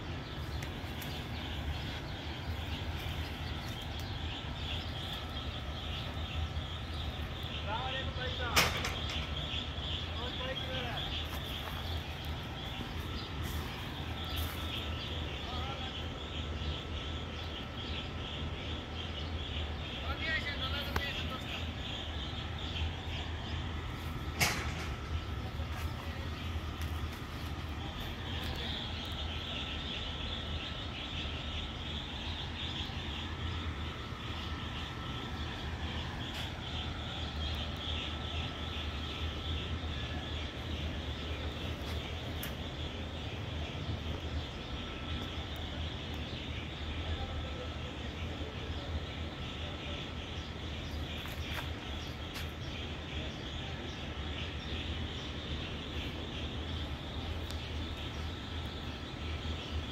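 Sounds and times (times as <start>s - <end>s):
steady low rumble: 0.0s - 59.9s.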